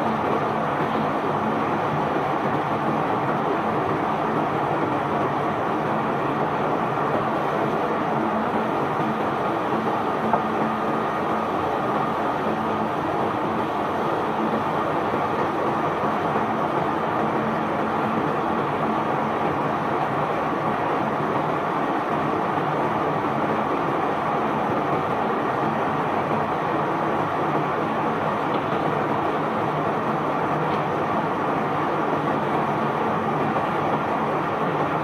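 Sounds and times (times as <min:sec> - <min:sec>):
unloading machinery humming: 0:00.0 - 0:35.0.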